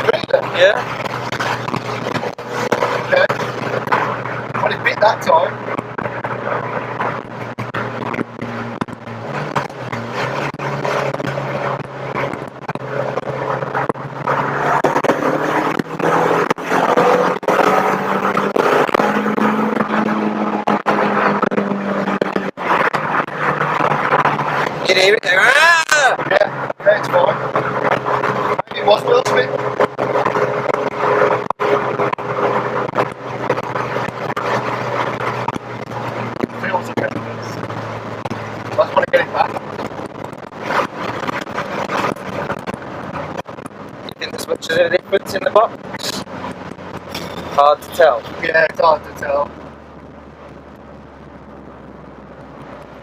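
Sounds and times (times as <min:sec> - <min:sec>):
car engine under load: 0:00.0 - 0:53.0
road and microphone noise: 0:00.0 - 0:53.0.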